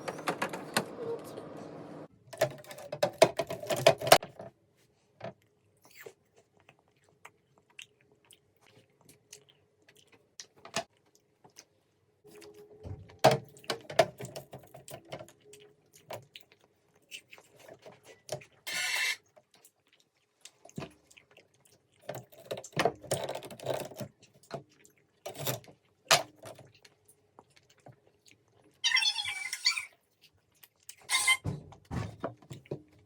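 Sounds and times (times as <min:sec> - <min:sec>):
chewing and wet mouth sounds: 0:05.3 - 0:33.0.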